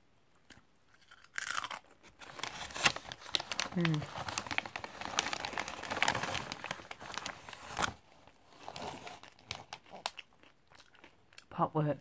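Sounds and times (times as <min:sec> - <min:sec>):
crisp packet crinkling: 0:00.9 - 0:11.2.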